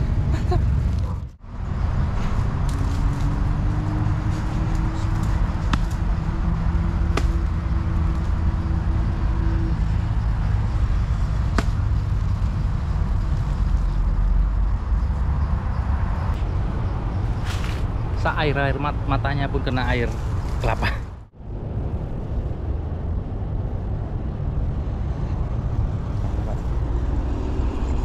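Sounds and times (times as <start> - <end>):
engine drone: 0.0 - 28.0
traffic rumble: 0.0 - 28.0.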